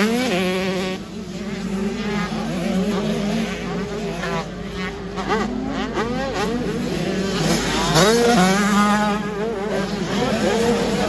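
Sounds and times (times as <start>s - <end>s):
motocross bike engines whining: 0.0s - 11.0s.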